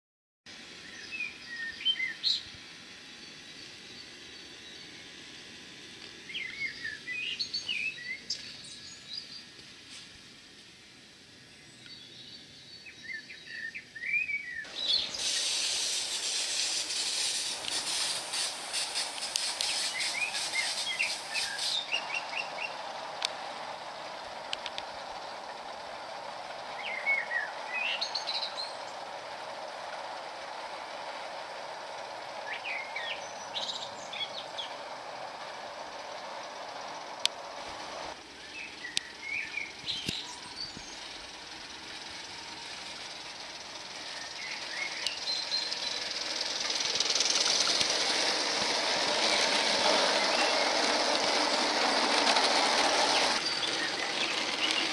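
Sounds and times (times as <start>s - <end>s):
model steam train running: 0.5s - 11.6s, 12.5s - 54.9s
songbirds chirping: 0.8s - 9.8s, 10.4s - 16.0s, 19.5s - 54.9s.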